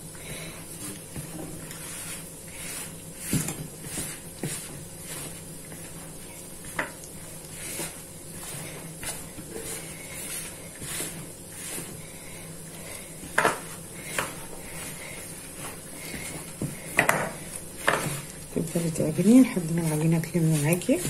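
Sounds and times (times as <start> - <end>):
gloved hands kneading crumbly dough: 0.0 - 21.0
plastic gloves rustling: 0.0 - 21.0.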